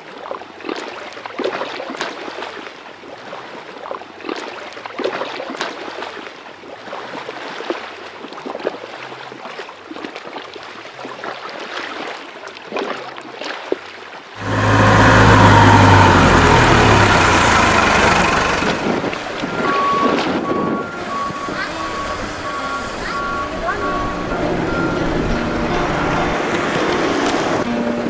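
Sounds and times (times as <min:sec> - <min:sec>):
underwater rushing water: 0:00.0 - 0:27.8.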